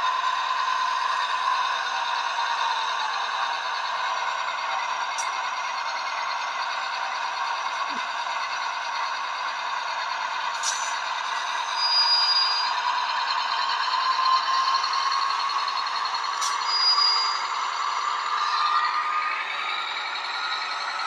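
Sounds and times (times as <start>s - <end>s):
model locomotive diesel engine sound: 0.0s - 21.0s.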